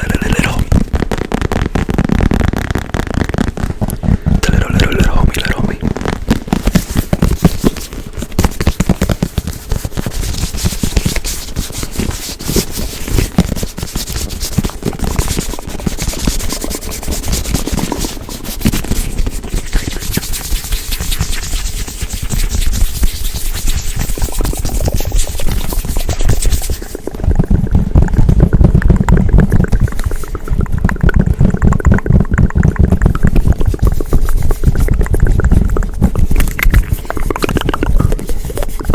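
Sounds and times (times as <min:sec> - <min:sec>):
hands scratching and rubbing: 0:00.0 - 0:38.9.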